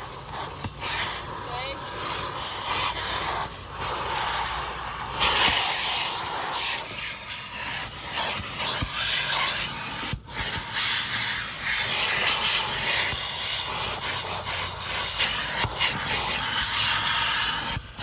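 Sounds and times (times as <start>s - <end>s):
vacuum sucking through hose: 0.0s - 18.0s.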